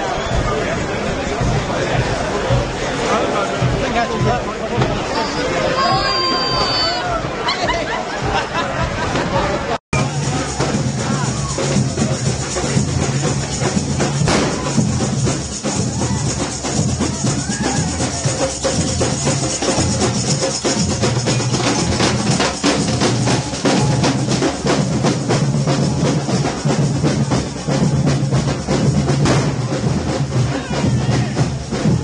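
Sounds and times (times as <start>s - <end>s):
marching drum band: 0.0s - 9.1s, 10.0s - 32.0s.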